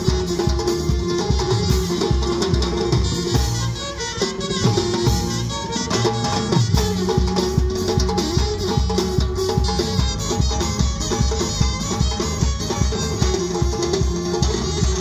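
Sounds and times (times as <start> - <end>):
drums beating driving rhythm: 0.0 - 15.0
sustained melody line: 0.0 - 15.0.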